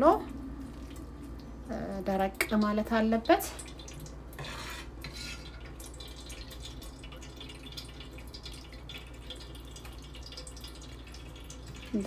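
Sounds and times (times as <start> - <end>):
liquid dripping through strainer: 0.0 - 1.6, 2.2 - 4.4, 5.0 - 12.0.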